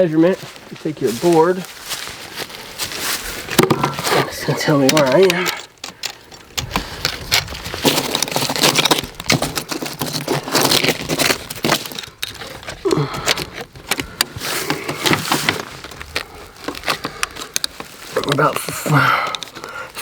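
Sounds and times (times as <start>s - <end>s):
wooden board being handled: 0.4s - 20.0s.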